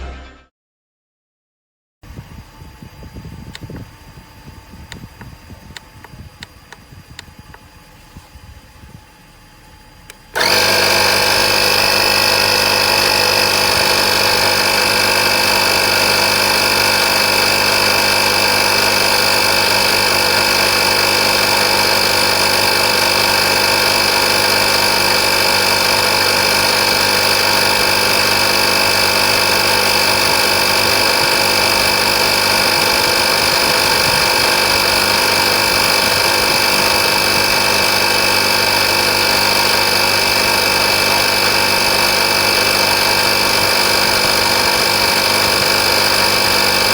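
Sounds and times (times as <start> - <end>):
air compressor running: 2.0 - 46.9.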